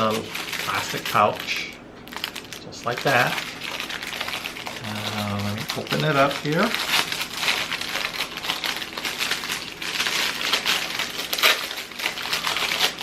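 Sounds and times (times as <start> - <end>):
plastic pouch crinkling: 0.0 - 13.0.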